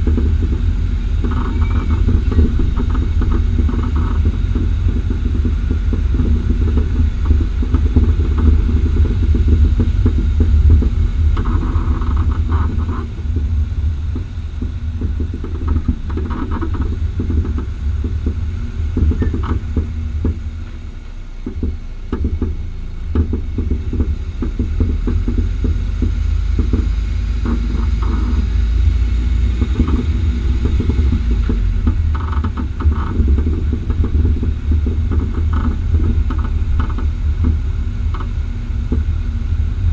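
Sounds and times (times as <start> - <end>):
car road rumble: 0.0 - 39.9
suspension knocks and pops: 0.0 - 39.9.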